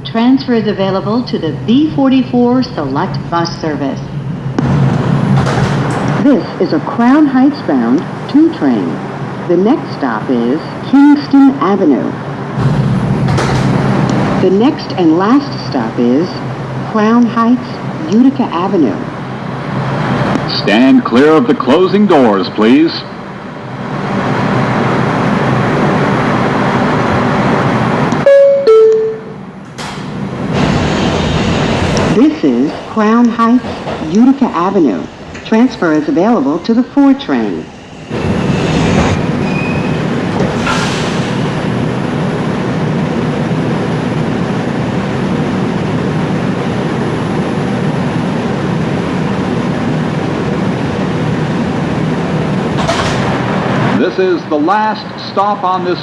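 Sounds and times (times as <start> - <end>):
subway car running noise: 0.0 - 56.0.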